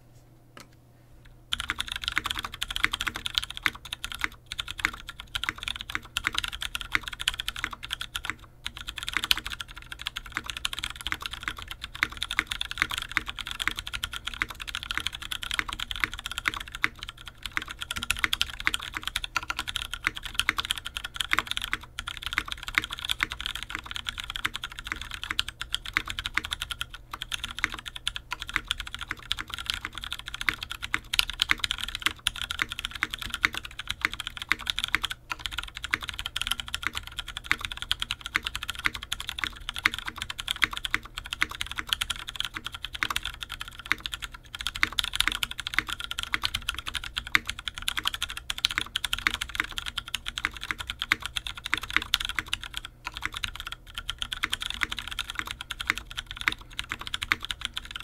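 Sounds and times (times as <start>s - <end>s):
fast typing on mechanical keyboard: 1.5s - 58.0s.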